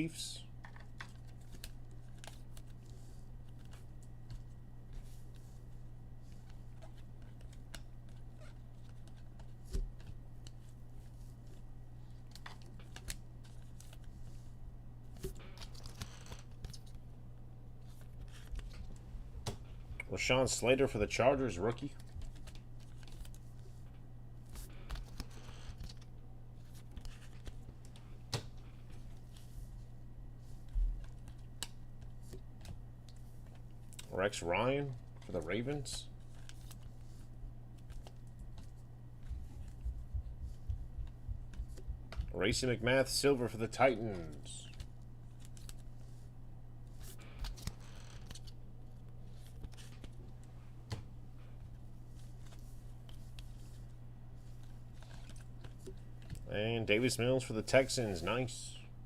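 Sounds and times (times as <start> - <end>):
faint electrical hum: 0.0 - 59.0
trading cards rustling and clicking: 0.5 - 58.4.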